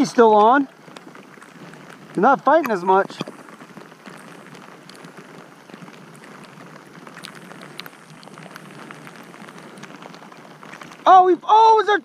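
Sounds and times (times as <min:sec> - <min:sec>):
close raindrop ticks: 0:00.0 - 0:12.0
rain falling on lake: 0:00.0 - 0:12.0.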